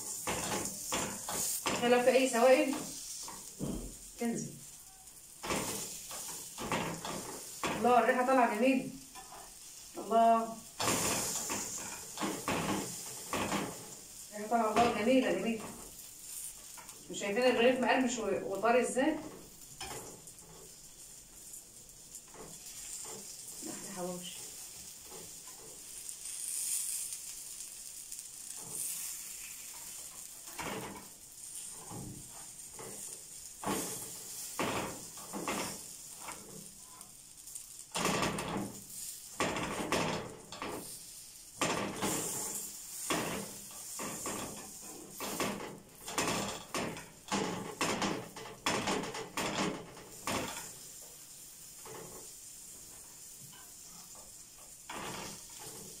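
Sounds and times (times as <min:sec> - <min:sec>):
metal spatula scraping pan: 0:00.0 - 0:04.0, 0:05.4 - 0:37.1, 0:37.9 - 0:52.4, 0:53.4 - 0:56.0
bread sizzling in oil: 0:00.0 - 0:56.0.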